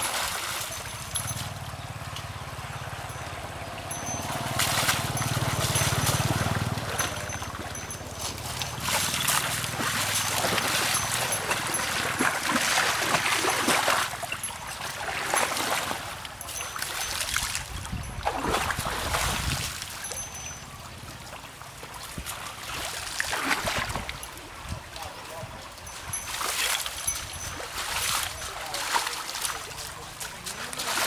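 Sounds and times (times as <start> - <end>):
water splashing and trickling: 0.0 - 31.0.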